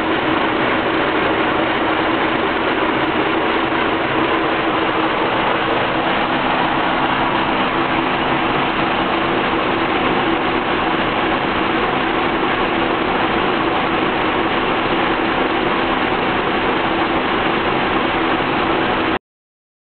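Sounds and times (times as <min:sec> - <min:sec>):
car engine idling roughly: 0:00.0 - 0:19.2.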